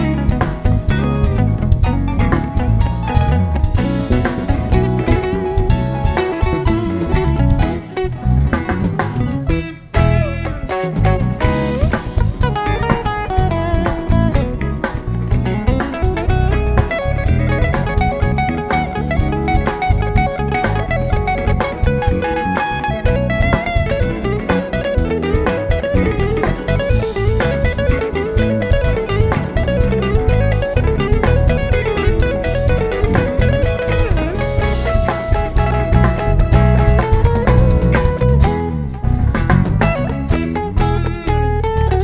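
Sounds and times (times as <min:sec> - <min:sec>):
bass guitar: 0:00.0 - 0:42.0
drum kit: 0:00.0 - 0:42.0
lead guitar: 0:00.0 - 0:42.0.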